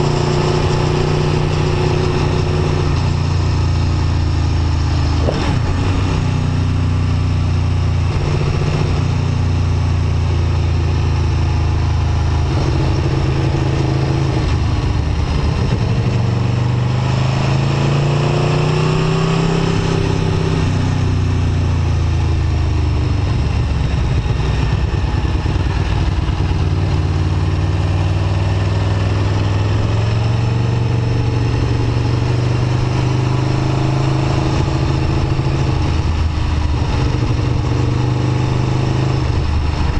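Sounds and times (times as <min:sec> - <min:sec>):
motorcycle engine running: 0:00.0 - 0:17.7, 0:18.9 - 0:39.9.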